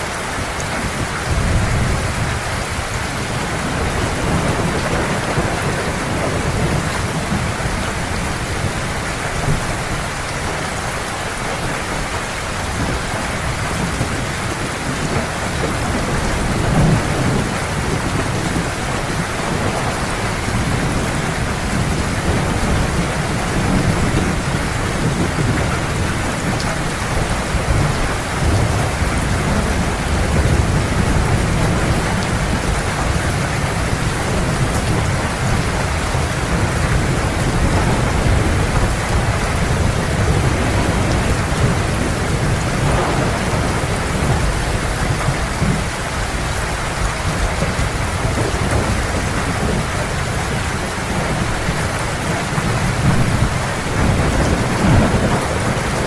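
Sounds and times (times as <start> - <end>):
heavy rain pouring: 0.0 - 56.0
thunder rumbling: 0.4 - 56.0.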